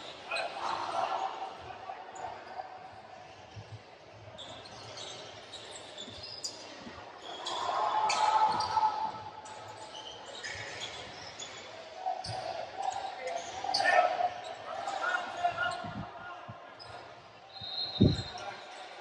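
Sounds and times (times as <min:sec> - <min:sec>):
voices echoing: 0:00.0 - 0:19.0
sneaker squeaks: 0:02.4 - 0:16.0, 0:16.7 - 0:19.0.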